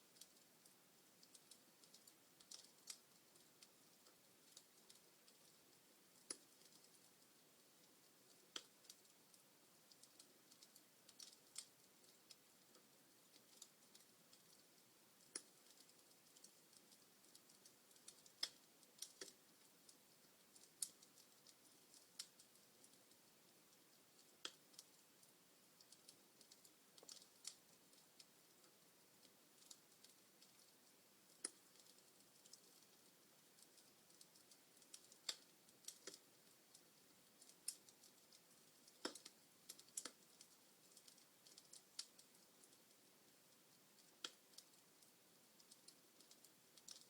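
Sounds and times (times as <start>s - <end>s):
faint hiss: 0.0s - 47.0s
log fire crackling: 0.0s - 47.0s.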